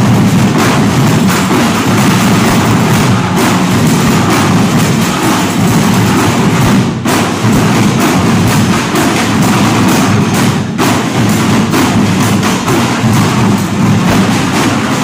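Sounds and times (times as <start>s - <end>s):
drums beating: 0.0s - 15.0s
marching band playing: 0.0s - 15.0s.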